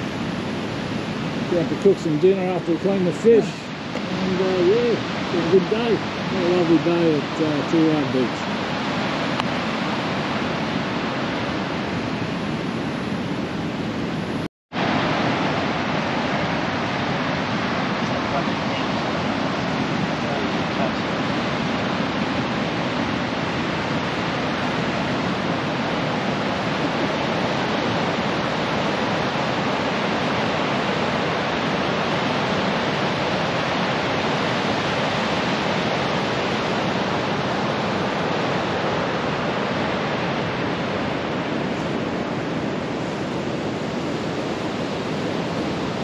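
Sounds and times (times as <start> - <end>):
ocean surf washing onto beach: 0.0 - 46.0.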